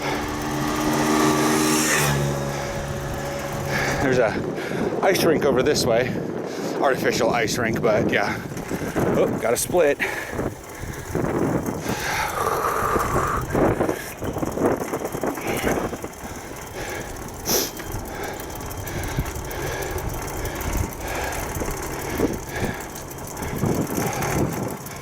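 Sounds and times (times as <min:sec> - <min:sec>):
bicycle rumbling along a path: 0:00.0 - 0:25.0.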